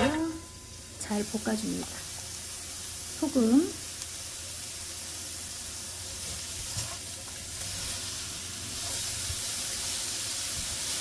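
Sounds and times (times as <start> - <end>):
carrots sizzling in pan: 0.0 - 11.0.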